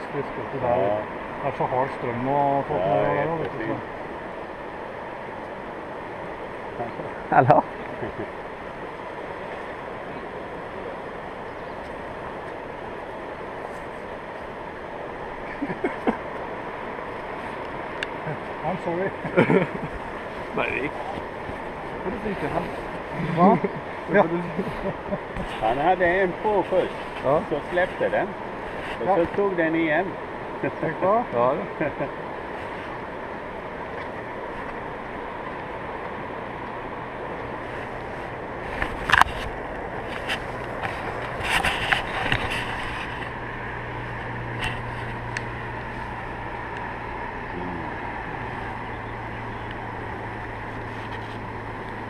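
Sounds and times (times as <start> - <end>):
river rapids rushing: 0.0 - 52.0.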